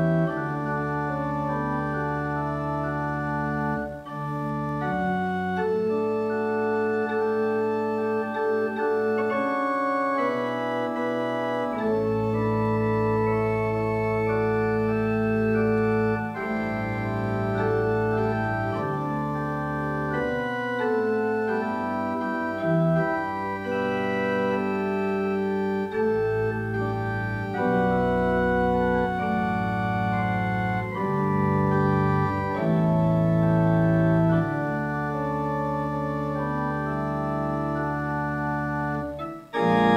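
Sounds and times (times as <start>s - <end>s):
low organ bass notes: 0.0s - 39.9s
organ playing held chords: 0.0s - 39.9s.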